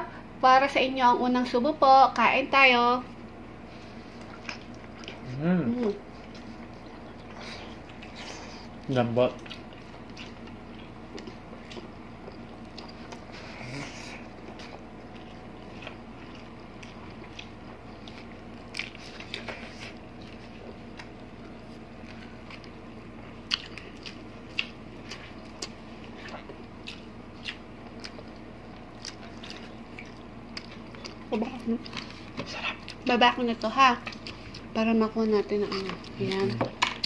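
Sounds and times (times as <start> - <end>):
soft wet chewing: 3.7 - 34.8.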